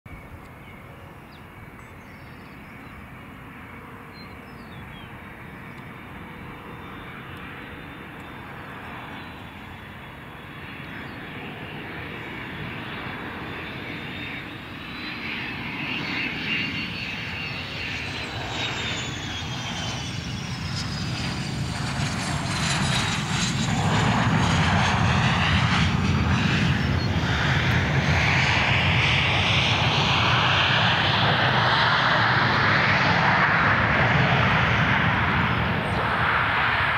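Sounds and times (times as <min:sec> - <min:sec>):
jet engine whine: 0:00.1 - 0:36.9
jet engine rush: 0:02.6 - 0:36.9.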